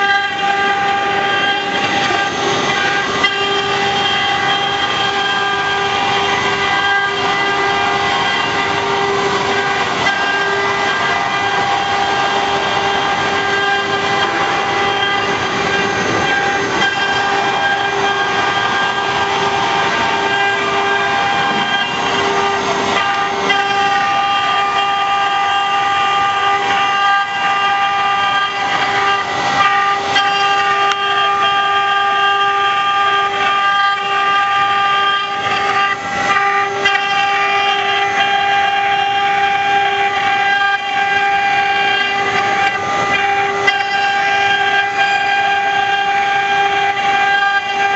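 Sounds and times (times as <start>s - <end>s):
bit cutting wood: 0.0s - 47.9s
engraving spindle whine: 0.0s - 47.9s.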